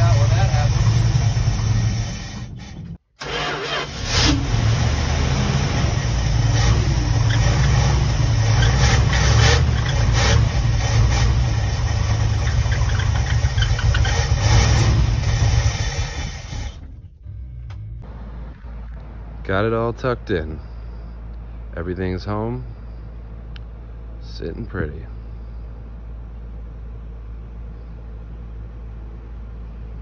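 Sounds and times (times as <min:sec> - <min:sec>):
motorhome engine running: 0:00.0 - 0:30.0.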